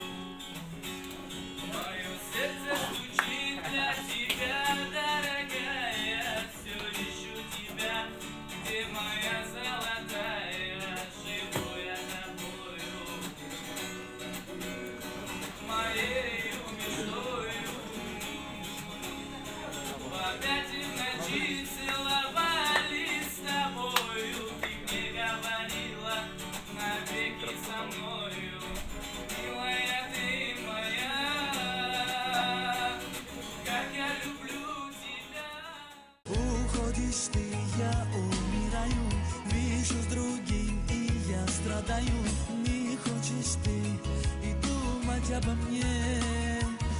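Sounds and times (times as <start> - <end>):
guitar-led instrumental music: 0.0 - 46.9.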